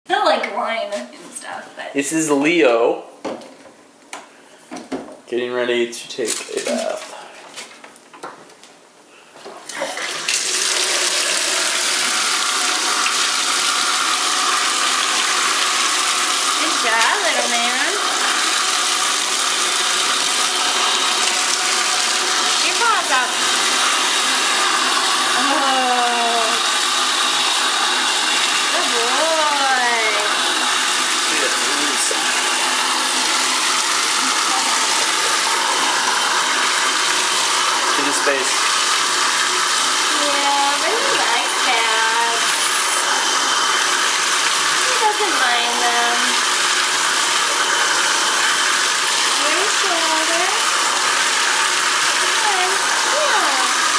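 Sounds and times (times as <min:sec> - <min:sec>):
faucet water running into tub: 0:09.6 - 0:53.9.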